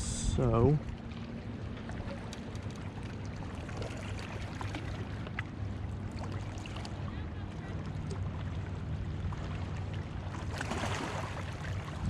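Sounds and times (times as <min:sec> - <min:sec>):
distant motorboat engine droning: 0:00.0 - 0:12.0
small waves lapping on shore: 0:00.0 - 0:12.0.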